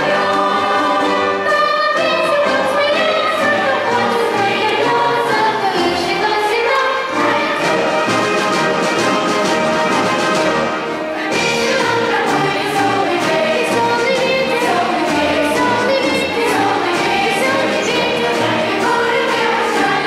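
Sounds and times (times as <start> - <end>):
children's choir singing: 0.0 - 20.0
orchestra playing: 0.0 - 20.0.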